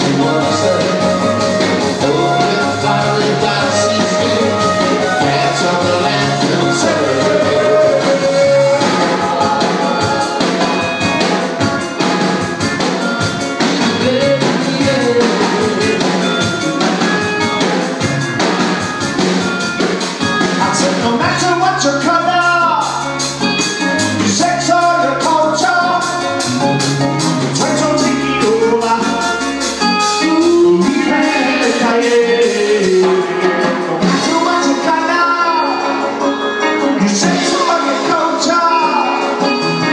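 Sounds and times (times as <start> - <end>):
person singing: 0.0 - 18.6, 20.4 - 23.3, 23.9 - 39.9
drum beat: 0.0 - 35.0
bass guitar: 0.0 - 39.9.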